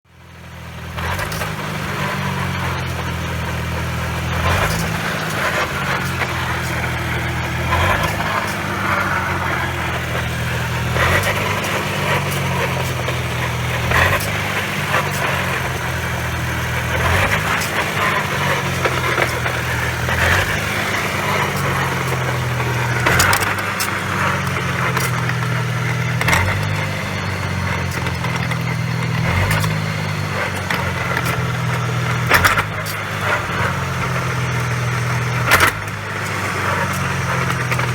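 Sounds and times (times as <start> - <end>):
road and drivetrain noise: 0.0 - 37.9
car engine running: 0.1 - 37.9.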